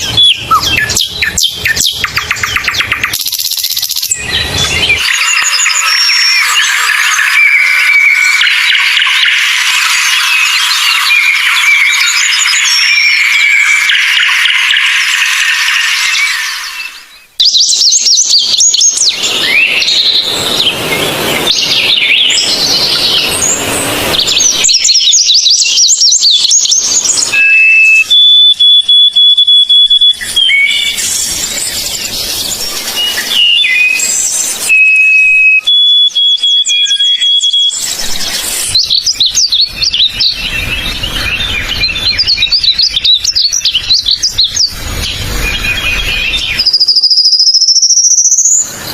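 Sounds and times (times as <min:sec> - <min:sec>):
songbirds chirping and singing: 0:00.0 - 0:48.9.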